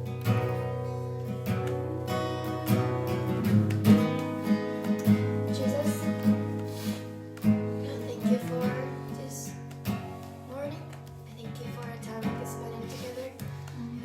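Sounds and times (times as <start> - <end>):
acoustic guitar strummed chords: 0.0 - 14.0.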